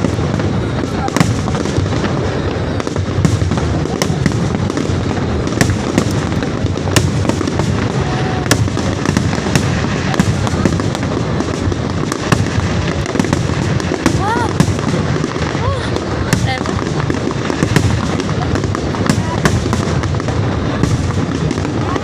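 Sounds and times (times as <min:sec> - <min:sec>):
fireworks bursting rumble: 0:00.0 - 0:22.0
sharp firework cracks: 0:00.0 - 0:22.0.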